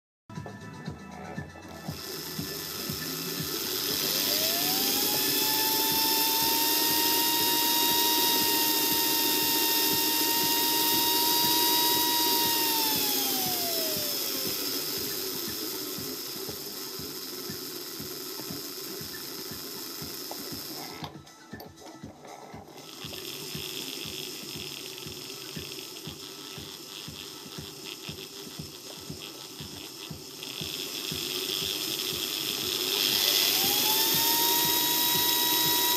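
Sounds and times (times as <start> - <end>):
model locomotive motor whine: 1.6 - 21.2, 22.2 - 35.9.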